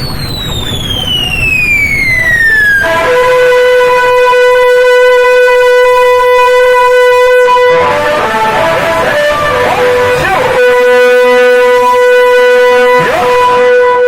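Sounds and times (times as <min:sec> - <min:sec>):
electronic tone pitch sweep: 0:00.0 - 0:14.0.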